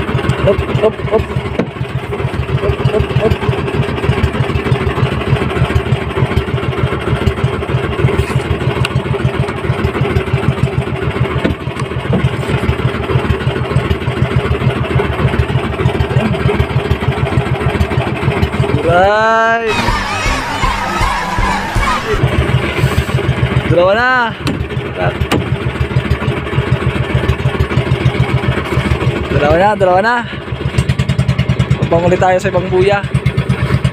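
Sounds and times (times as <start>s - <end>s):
small boat engine chugging: 0.0s - 33.9s.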